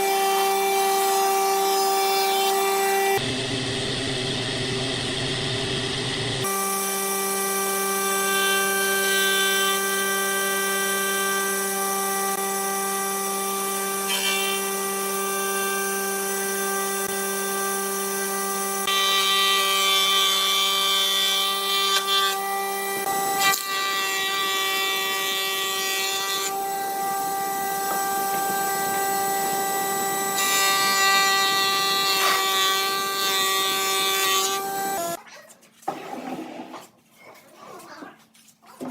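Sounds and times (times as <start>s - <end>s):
power tool running: 0.0s - 35.2s.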